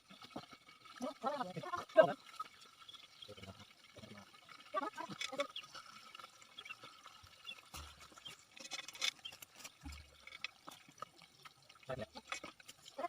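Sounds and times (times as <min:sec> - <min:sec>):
sharp splashes and clicks: 0:00.0 - 0:13.0
water splashing and dripping: 0:00.0 - 0:13.0.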